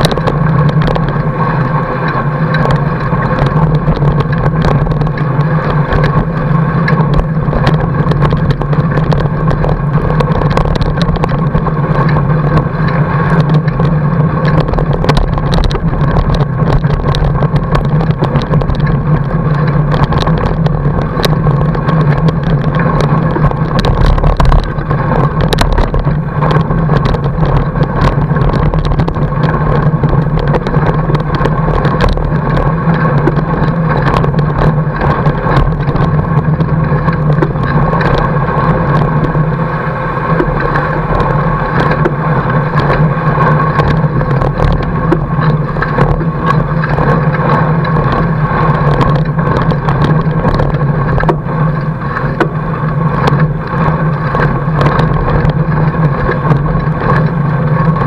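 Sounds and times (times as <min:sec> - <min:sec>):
bike clicks and rattles: 0:00.0 - 0:58.0
bike tyre rolling over snow: 0:00.0 - 0:58.0.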